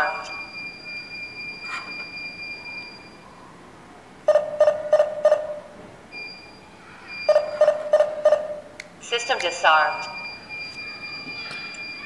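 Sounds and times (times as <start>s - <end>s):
quick alarm beeps: 0.0s - 3.2s, 4.3s - 8.6s, 9.2s - 12.0s
high steady alarm beep: 0.0s - 3.3s, 4.3s - 12.0s.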